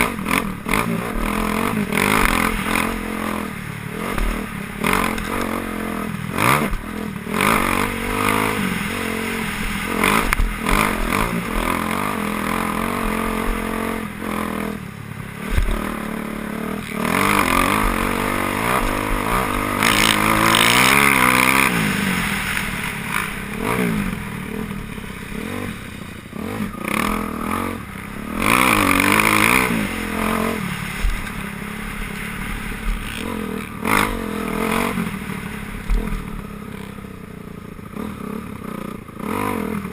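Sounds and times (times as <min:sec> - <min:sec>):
motocross bikes revving past: 0:00.0 - 0:39.9.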